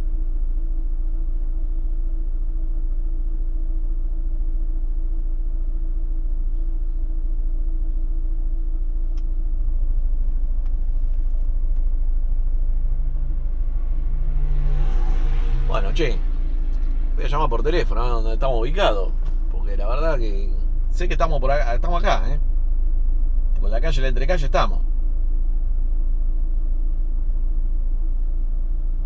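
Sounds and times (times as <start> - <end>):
second engine: 0.0 - 29.0
van engine idling: 0.0 - 29.0.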